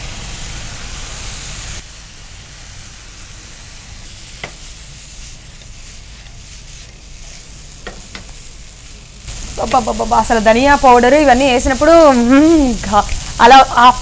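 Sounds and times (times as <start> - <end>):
spices sizzling in oil: 0.0 - 14.0.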